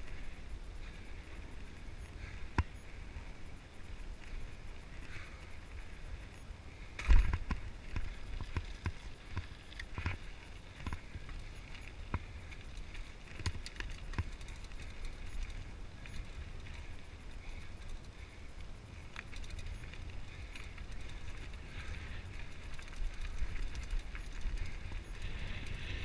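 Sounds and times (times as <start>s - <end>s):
bike rattling over bumps: 0.0s - 26.0s
wind rumble on microphone: 0.0s - 26.0s.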